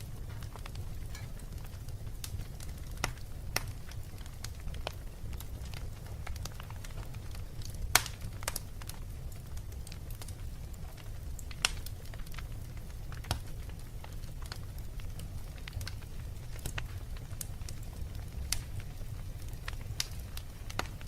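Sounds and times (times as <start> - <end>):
low rumble of fire: 0.0 - 21.0
wood fire popping: 0.0 - 21.0.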